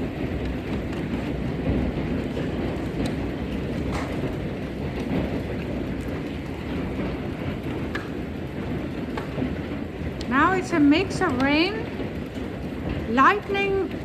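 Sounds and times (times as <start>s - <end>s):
hailstones clicking on hard surfaces: 0.0s - 14.0s
heavy rain pounding: 0.0s - 14.0s.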